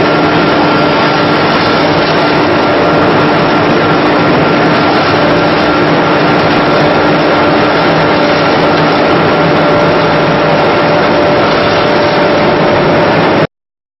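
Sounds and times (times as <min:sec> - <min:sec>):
production line machine din: 0:00.0 - 0:13.5
steady machine tones: 0:00.0 - 0:13.5.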